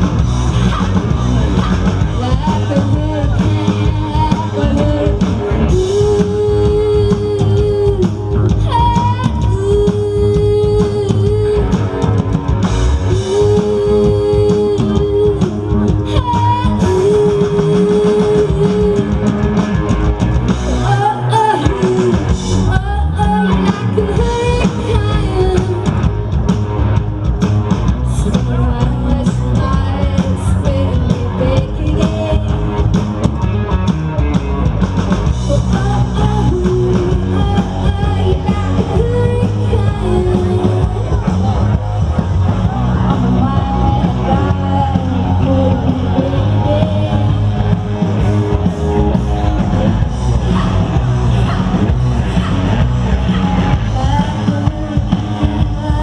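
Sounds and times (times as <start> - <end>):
drum kit: 0.0 - 56.0
electric guitars: 0.0 - 56.0
woman singing lead: 1.8 - 20.0, 20.7 - 27.0, 28.0 - 33.0, 35.2 - 56.0.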